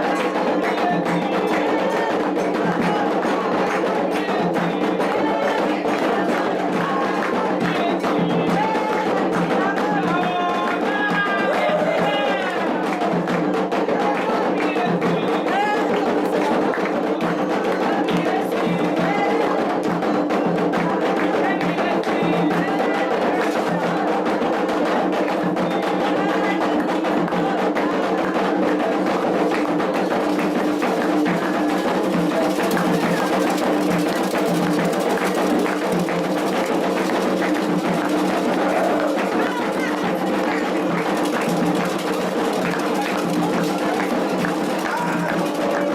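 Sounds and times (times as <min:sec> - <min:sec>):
hand drums and percussion: 0:00.0 - 0:45.9
voices singing: 0:00.0 - 0:45.9.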